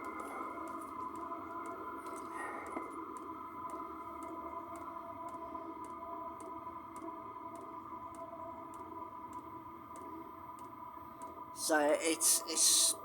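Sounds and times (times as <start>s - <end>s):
air heater humming: 0.0s - 13.0s.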